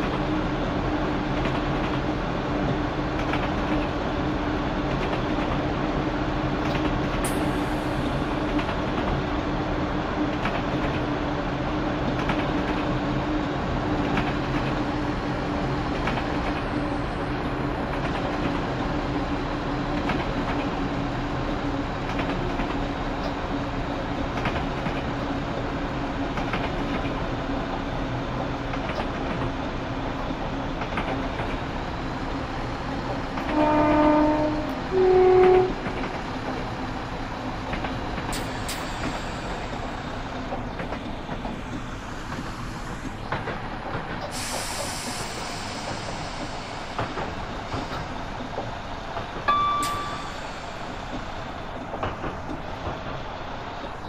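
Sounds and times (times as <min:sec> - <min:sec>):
diesel train engine: 0:00.0 - 0:54.0
train wheels rumbling: 0:00.0 - 0:54.0.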